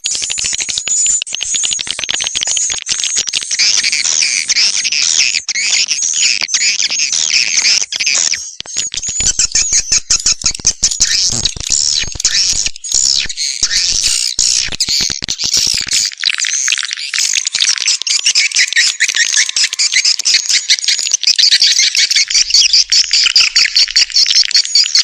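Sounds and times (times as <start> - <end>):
swiftlets twittering: 0.0 - 25.0.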